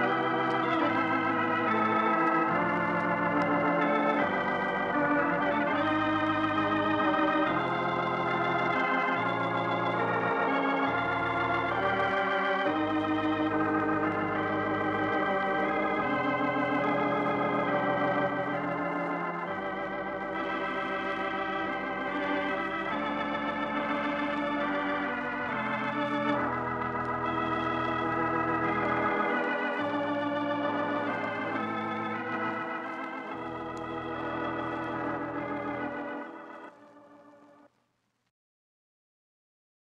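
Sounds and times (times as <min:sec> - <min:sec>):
organ chords with vibrato: 0:00.0 - 0:37.7.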